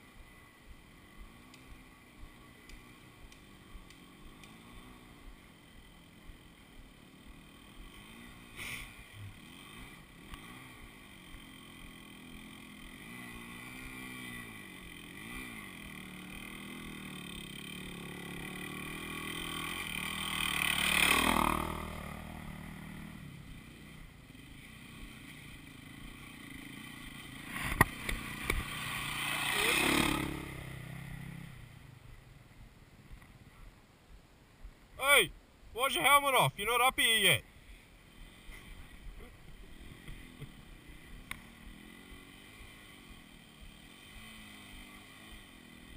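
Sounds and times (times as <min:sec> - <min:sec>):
dirt bike engines revving: 0:00.0 - 0:33.6, 0:35.0 - 0:45.9.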